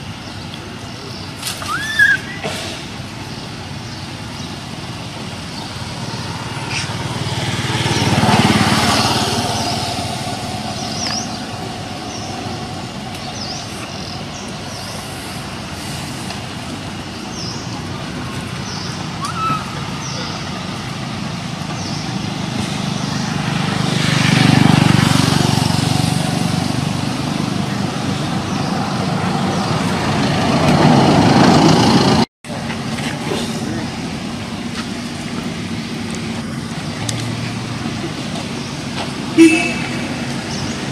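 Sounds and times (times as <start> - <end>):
low traffic rumble: 0.0 - 40.9
motor vehicle passing: 1.5 - 40.9.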